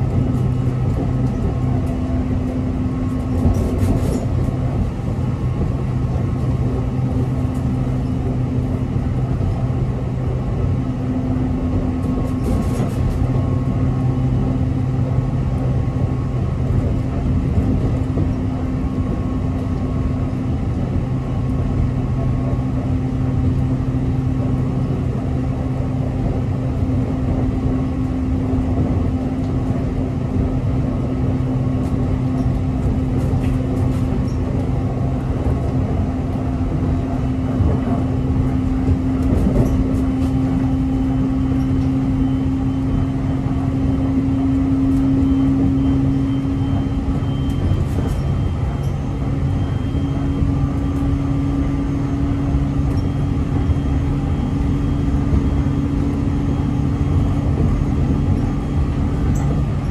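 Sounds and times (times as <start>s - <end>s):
electric train hum: 0.0s - 59.9s
train wheels rumbling on rail: 0.0s - 59.9s.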